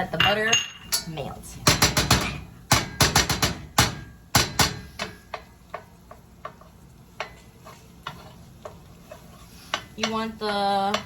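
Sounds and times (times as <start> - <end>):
spoon knocking against a pan: 1.6 - 11.0.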